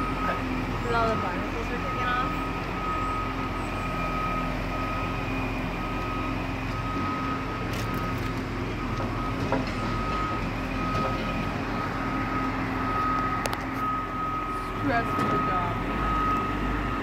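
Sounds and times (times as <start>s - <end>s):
forklift engine drone: 0.0s - 17.0s
high warning beeps: 0.0s - 17.0s.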